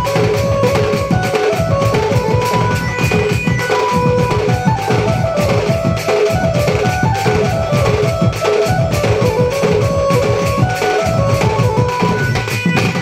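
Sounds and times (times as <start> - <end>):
barrel drums beaten fast: 0.0 - 13.0
held-note melody: 0.0 - 13.0.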